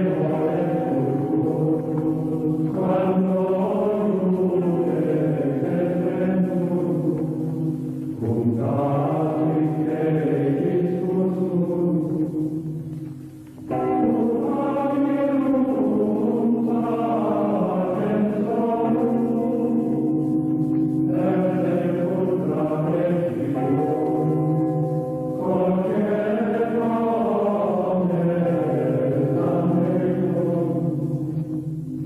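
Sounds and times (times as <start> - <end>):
monks chanting plainchant: 0.0 - 12.6, 13.9 - 20.2, 21.1 - 24.5, 25.4 - 31.4.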